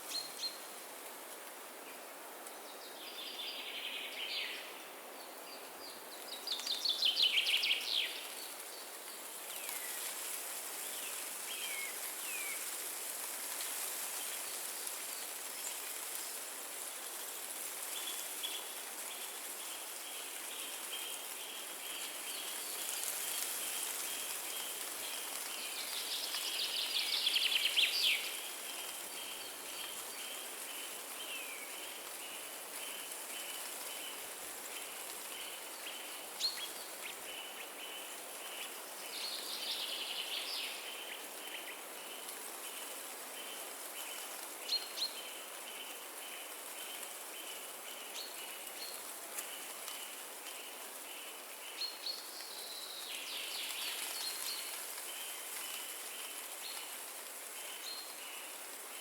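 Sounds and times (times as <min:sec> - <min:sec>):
wind in the trees: 0:00.0 - 0:59.0.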